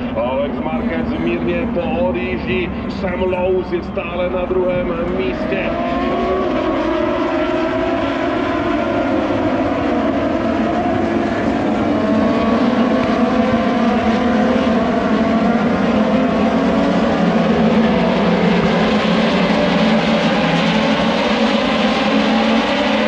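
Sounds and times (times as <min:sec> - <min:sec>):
racing motorcycle engines at high revs: 0:00.0 - 0:23.0.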